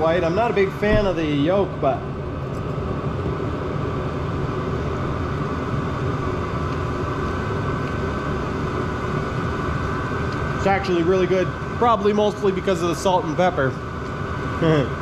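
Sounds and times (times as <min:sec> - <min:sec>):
heater fan whine and burner rush: 0:00.0 - 0:15.0.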